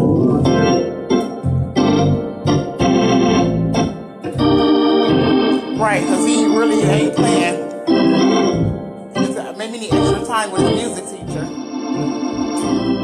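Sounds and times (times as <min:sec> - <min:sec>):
organ chords: 0:00.0 - 0:13.0.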